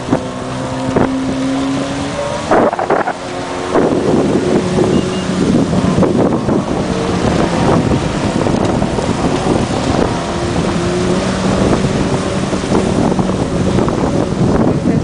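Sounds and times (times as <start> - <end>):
water spray rushing: 0.0 - 14.9
jet ski engines running: 0.0 - 15.0
wind buffeting microphone: 0.0 - 15.0.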